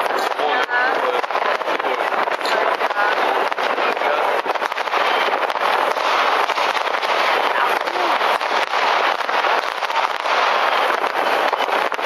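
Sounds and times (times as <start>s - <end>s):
fireworks and firecrackers cracking: 0.0s - 12.0s.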